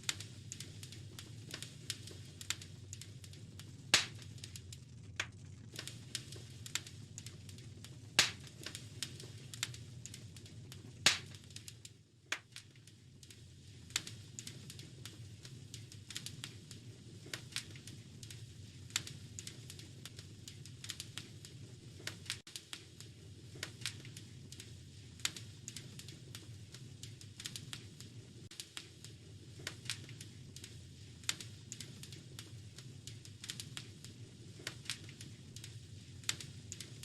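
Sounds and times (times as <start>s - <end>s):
log fire crackling: 0.0s - 37.0s
low background rumble: 0.0s - 37.0s.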